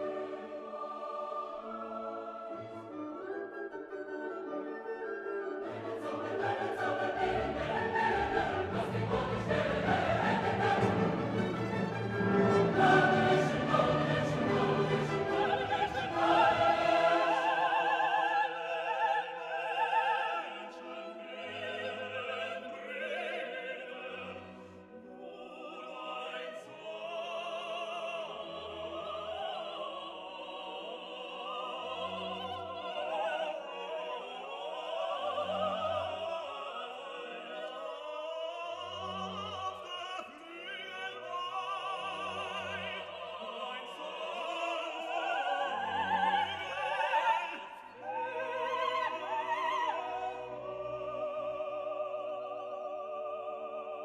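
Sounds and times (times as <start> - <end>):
operatic singing with orchestra: 0.0 - 54.0.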